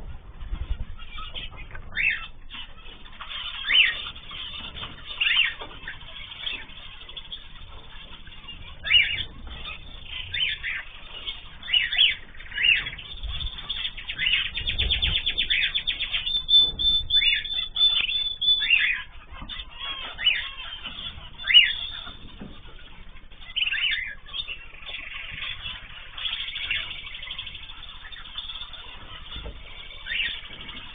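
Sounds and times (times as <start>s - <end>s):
cage birds chirping: 0.0s - 30.9s
bird trilling: 0.7s - 30.9s.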